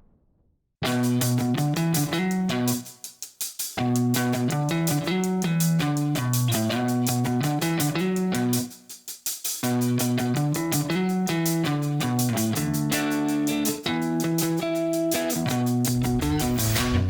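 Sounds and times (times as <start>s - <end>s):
guitar music over steady beat: 0.8s - 17.0s.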